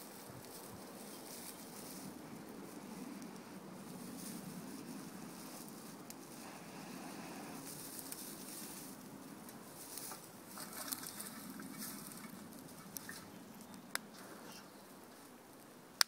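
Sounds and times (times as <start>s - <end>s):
twig fire crackling and snapping: 0.0s - 6.6s, 7.5s - 16.0s.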